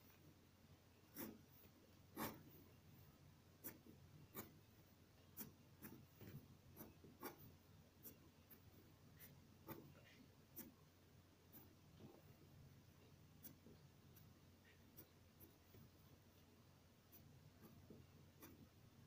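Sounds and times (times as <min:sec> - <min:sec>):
ballpoint pen scratching on paper: 0:01.1 - 0:02.8, 0:03.6 - 0:12.4, 0:13.0 - 0:16.0, 0:17.0 - 0:18.8.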